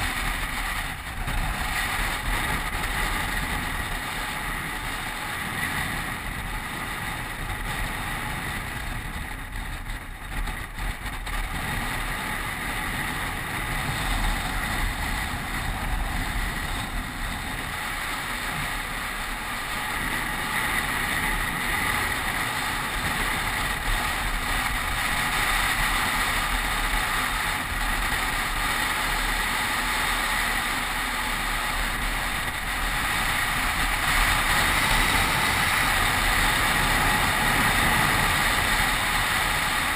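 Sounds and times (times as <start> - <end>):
tyre noise on tarmac: 0.0 - 39.9
wind buffeting microphone: 0.0 - 39.9.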